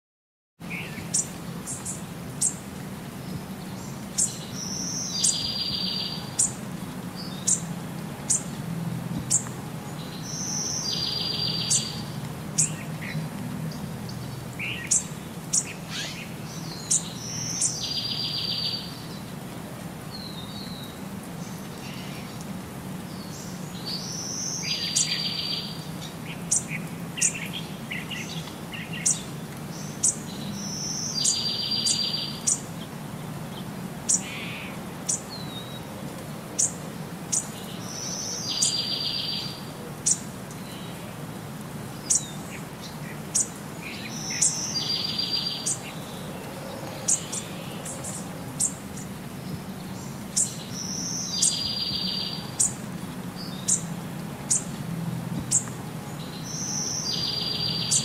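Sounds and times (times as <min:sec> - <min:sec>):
small birds chirping: 0:00.6 - 0:08.6, 0:09.2 - 0:19.5, 0:20.1 - 0:35.9, 0:36.5 - 0:41.2, 0:41.9 - 0:54.8, 0:55.4 - 0:58.0.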